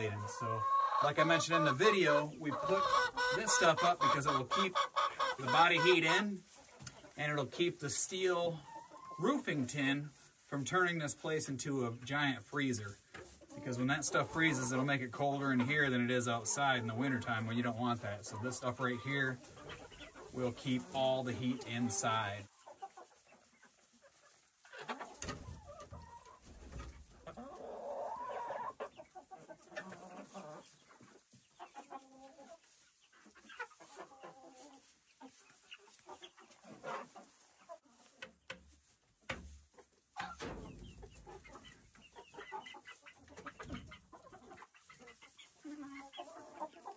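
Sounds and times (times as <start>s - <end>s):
hens clucking: 0.0s - 46.9s.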